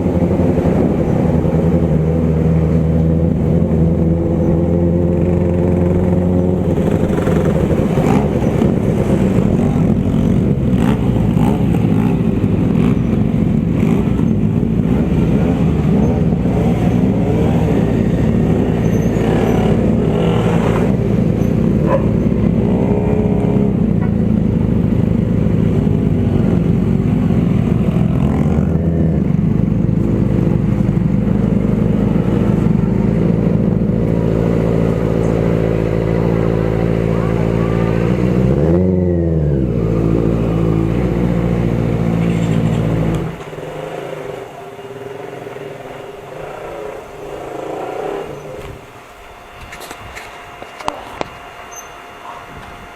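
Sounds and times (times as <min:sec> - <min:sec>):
motorcycle engines running: 0:00.0 - 0:52.9.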